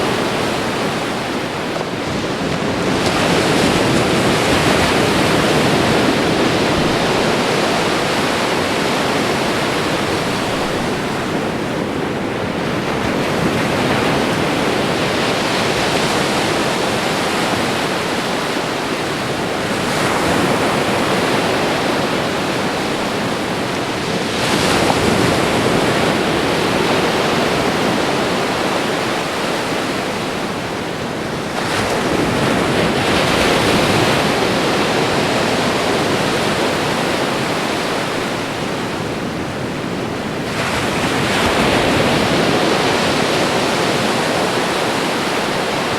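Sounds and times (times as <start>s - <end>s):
ocean waves washing onto shore: 0.0s - 45.9s.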